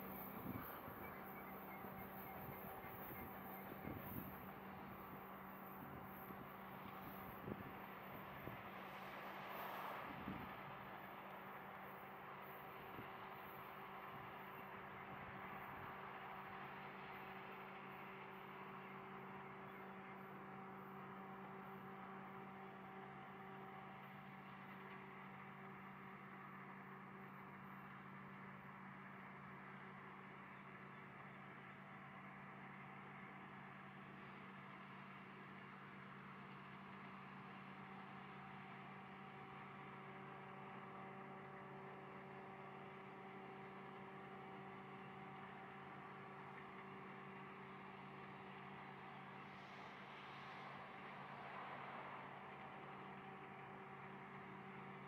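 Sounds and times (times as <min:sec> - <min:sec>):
industrial machinery hum: 0:00.0 - 0:34.6, 0:35.6 - 0:55.0.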